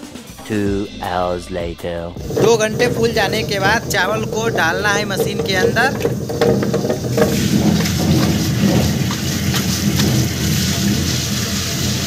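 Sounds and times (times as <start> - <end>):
rice grains ticking: 2.2 - 12.0
wet grinder humming: 2.2 - 12.0.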